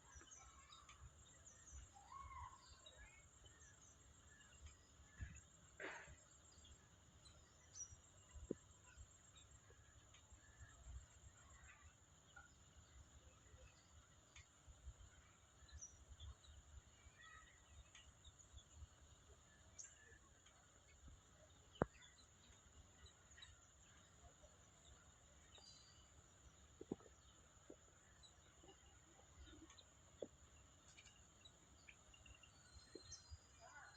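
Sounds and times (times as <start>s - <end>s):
faint bird chirps: 0.0s - 33.9s.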